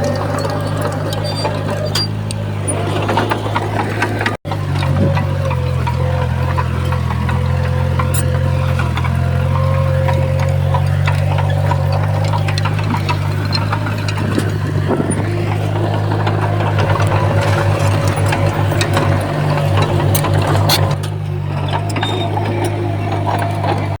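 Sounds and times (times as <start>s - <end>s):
bulldozer diesel engine running: 0.0s - 24.0s
clanks and knocks: 0.0s - 24.0s.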